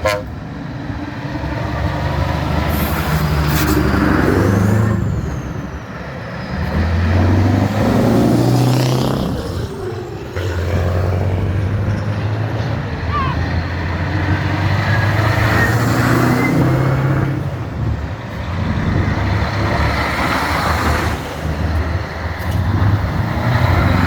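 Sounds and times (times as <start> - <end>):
old truck engines running: 0.0 - 24.0.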